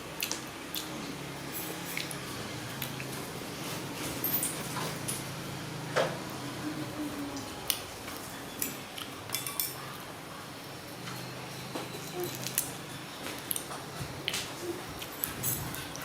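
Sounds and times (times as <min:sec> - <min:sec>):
low steady hum: 0:00.0 - 0:13.2.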